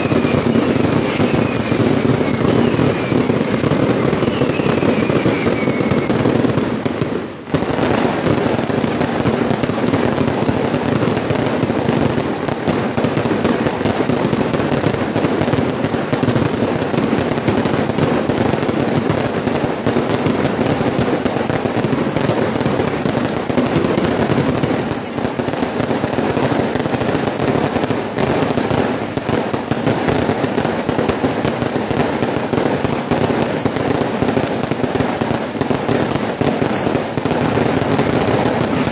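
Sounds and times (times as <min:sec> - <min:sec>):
firework whistles: 0:00.0 - 0:38.9
fireworks bursting and crackling: 0:00.0 - 0:38.9.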